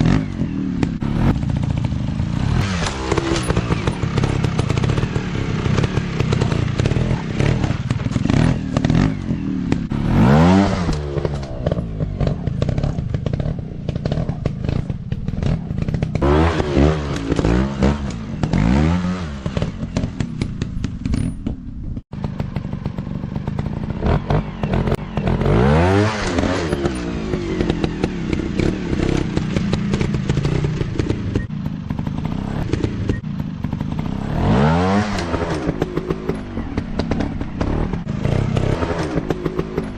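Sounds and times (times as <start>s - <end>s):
dirt bike engine revving: 0.0s - 21.3s, 22.0s - 39.9s.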